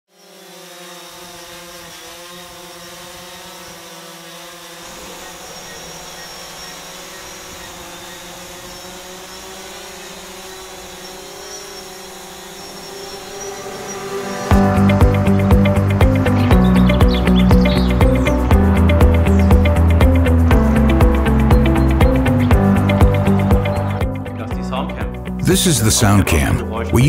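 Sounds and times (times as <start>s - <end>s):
buzzing hum: 0.1s - 27.0s.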